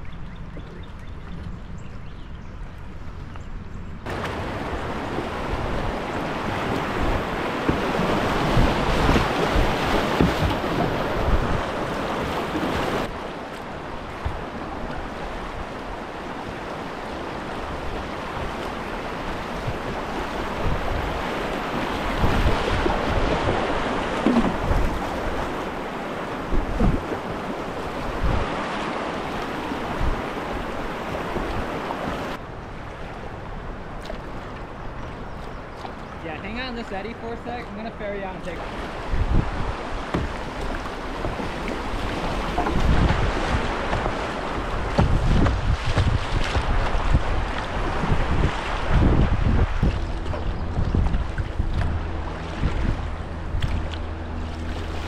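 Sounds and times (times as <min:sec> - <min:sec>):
wind buffeting microphone: 0:00.0 - 0:55.0
paddle stroke splashes: 0:04.0 - 0:32.4, 0:33.8 - 0:55.0.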